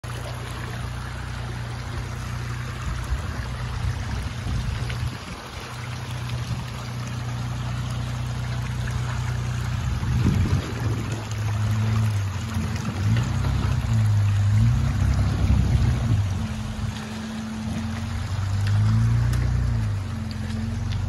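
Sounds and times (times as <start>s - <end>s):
engine running at low revs: 0.0s - 21.0s
water running over stones: 0.0s - 21.0s.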